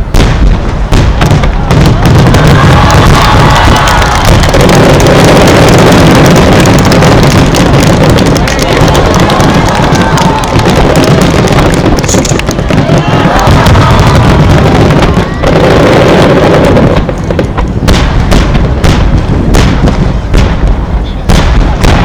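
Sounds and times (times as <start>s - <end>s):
fireworks bursts and crackle: 0.0s - 22.0s
sharp firework bangs: 0.0s - 22.0s.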